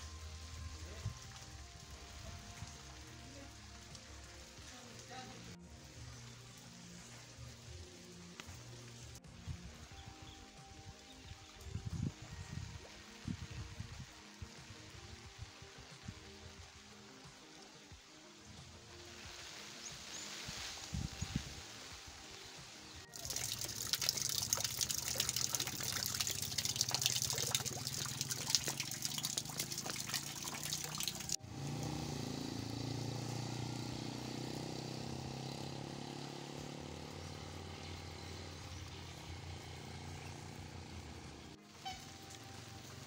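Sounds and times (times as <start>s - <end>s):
rain falling: 0.0s - 9.2s, 12.8s - 43.0s.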